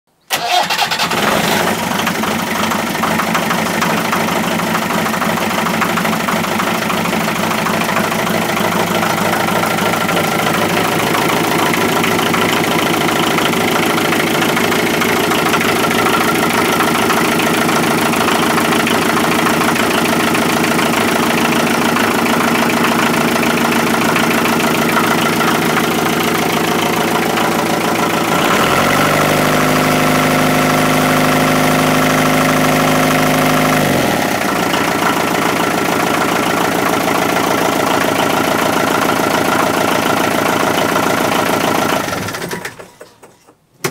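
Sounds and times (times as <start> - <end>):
marine diesel engine idling: 1.8 - 29.1, 33.0 - 42.2.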